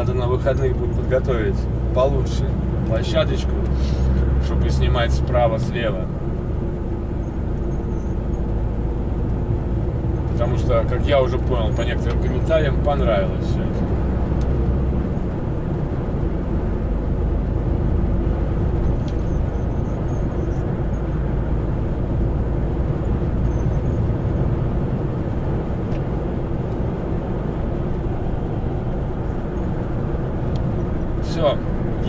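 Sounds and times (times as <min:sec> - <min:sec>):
road noise: 0:00.0 - 0:32.0
truck engine drone: 0:00.0 - 0:32.0.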